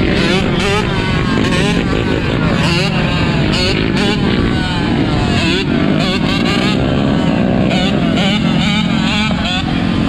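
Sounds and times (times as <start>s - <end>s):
atv engines revving: 0.0s - 10.0s
low rumble of engines: 0.0s - 10.0s.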